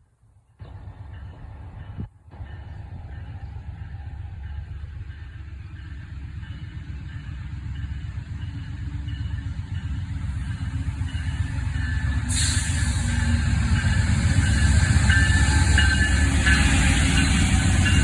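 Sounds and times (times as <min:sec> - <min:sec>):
train engine rumble: 0:00.2 - 0:18.0.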